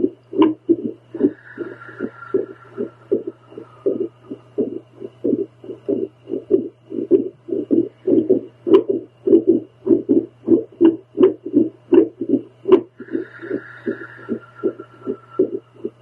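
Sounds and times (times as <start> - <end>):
heartbeat through doppler: 0.0 - 16.0
low electrical hum: 0.0 - 16.0.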